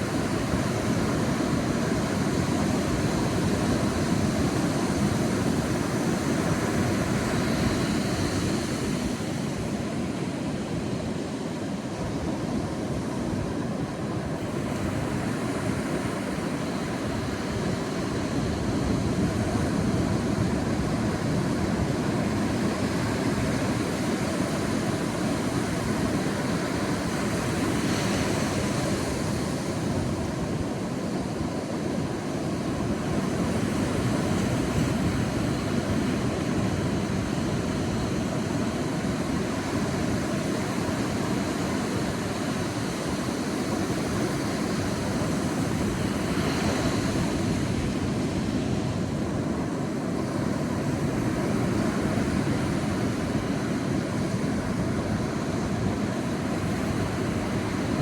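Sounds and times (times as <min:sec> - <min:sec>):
surf washing on beach: 0:00.0 - 0:58.0.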